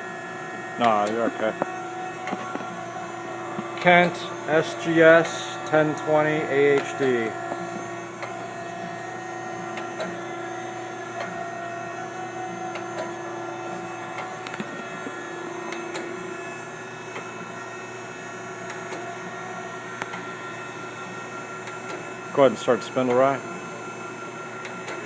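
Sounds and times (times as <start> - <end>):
electric machine hum: 0.0 - 25.0.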